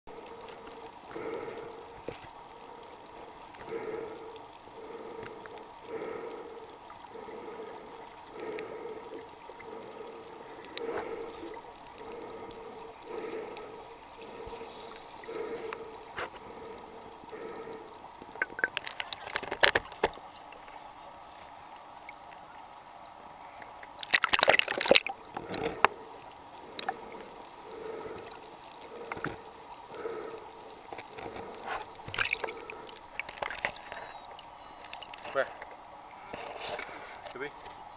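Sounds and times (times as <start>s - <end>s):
water splashing: 0.1s - 21.4s, 23.5s - 37.5s.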